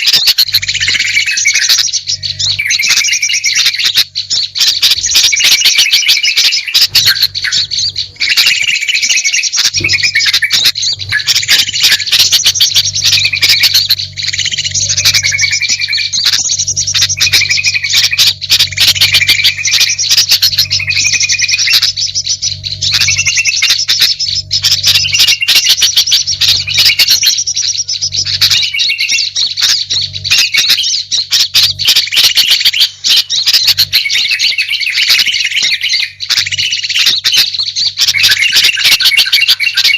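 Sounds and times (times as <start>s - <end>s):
steady low hum: 0.0s - 34.3s
songbirds chirping and trilling: 0.0s - 39.9s.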